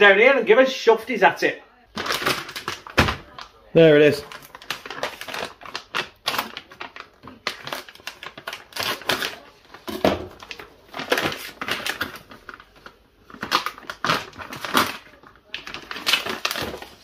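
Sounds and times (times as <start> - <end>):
knife slitting plastic packet: 1.9 - 3.5, 4.1 - 17.0
plastic pouch crinkling: 1.9 - 17.0.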